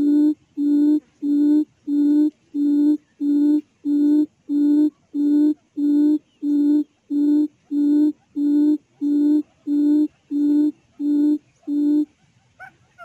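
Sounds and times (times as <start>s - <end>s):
quail low hooting call: 0.0s - 13.0s
soft chirping bird calls: 0.0s - 13.0s.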